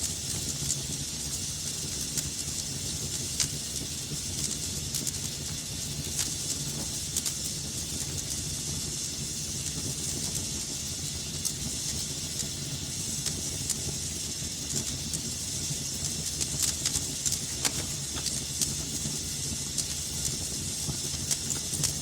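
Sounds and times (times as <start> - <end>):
fire hissing: 0.0 - 22.0
wood fire crackling and popping: 0.0 - 22.0.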